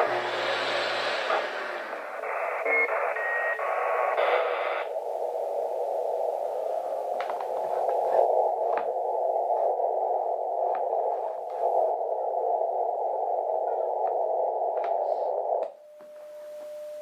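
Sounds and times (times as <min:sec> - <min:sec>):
radio receiver hiss: 0:00.0 - 0:15.8.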